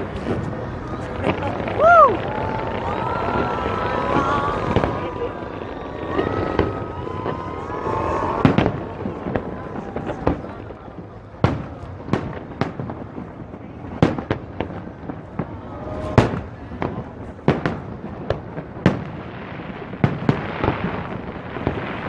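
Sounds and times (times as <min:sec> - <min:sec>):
fireworks booming: 0:00.0 - 0:22.0
fireworks crackling: 0:00.0 - 0:22.0.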